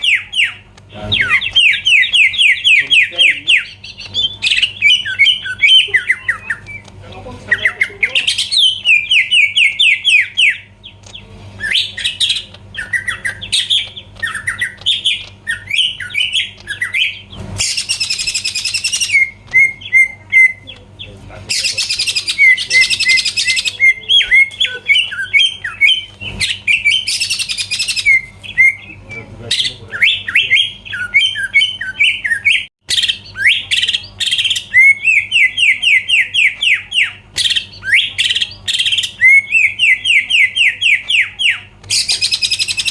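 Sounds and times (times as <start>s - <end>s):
harsh raspy bird calls: 0.0s - 42.9s.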